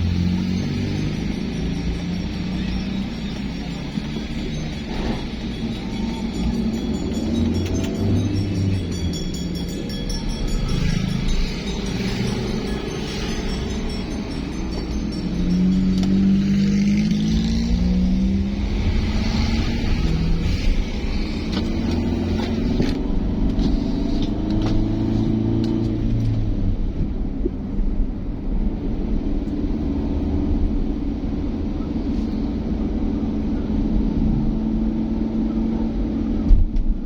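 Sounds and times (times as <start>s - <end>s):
road noise: 0.0s - 37.0s
vehicle engine accelerating: 0.0s - 37.0s.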